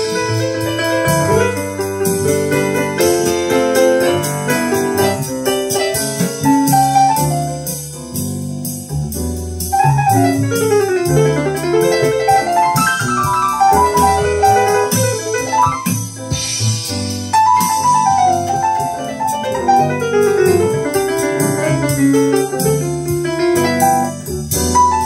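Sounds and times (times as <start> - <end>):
recorded piano music: 0.0 - 25.0.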